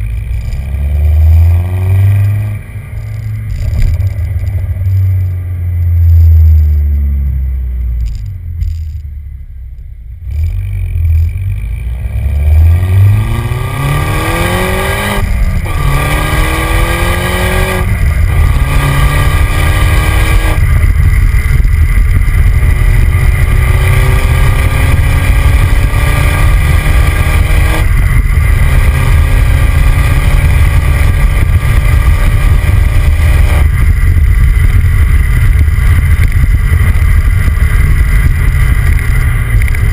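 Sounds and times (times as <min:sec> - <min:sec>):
engine revving through gears: 0:00.0 - 0:09.0, 0:10.2 - 0:39.9
tyre and wind noise: 0:00.0 - 0:09.1, 0:11.9 - 0:39.9
car exhaust rumble: 0:00.0 - 0:39.9.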